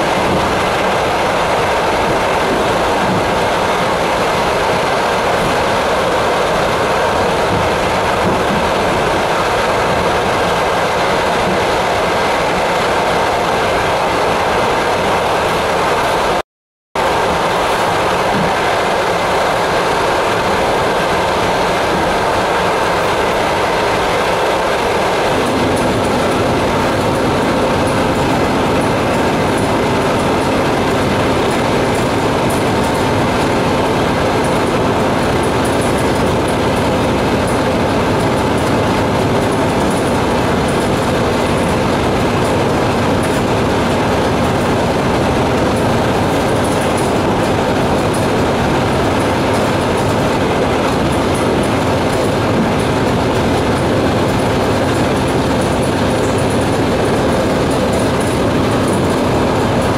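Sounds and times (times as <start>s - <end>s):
train wheels rumbling and rattling: 0.0s - 16.4s, 17.0s - 59.9s.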